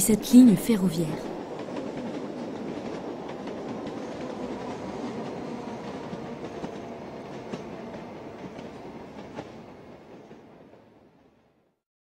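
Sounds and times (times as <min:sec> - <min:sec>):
train rumbling on track: 0:00.0 - 0:11.5.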